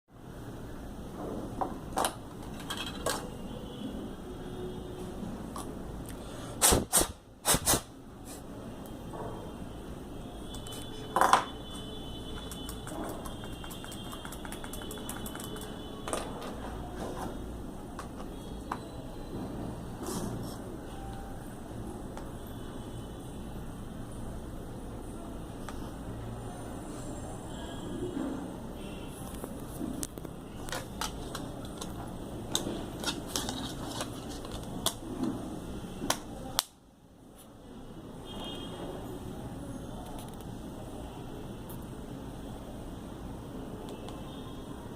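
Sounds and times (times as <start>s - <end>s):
steady background noise: 0.1s - 44.9s.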